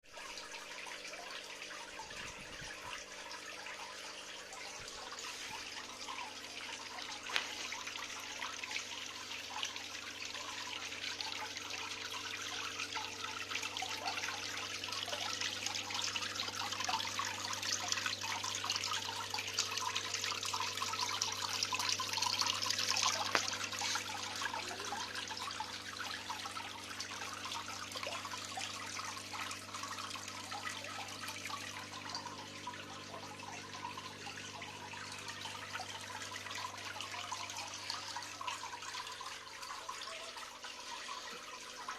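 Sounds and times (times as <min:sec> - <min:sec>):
water trickling down fountain: 0:00.0 - 0:41.9.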